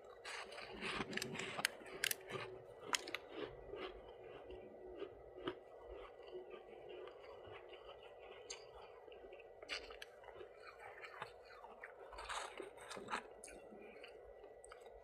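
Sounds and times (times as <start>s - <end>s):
crunching frost being chewed: 0.0s - 15.0s.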